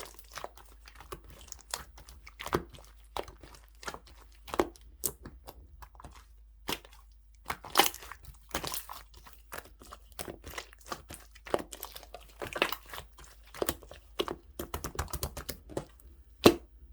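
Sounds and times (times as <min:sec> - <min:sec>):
hands squishing slime: 0:00.0 - 0:16.7.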